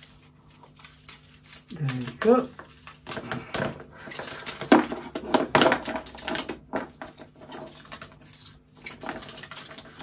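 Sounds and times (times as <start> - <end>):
paper and cable rustling: 0.0 - 10.0.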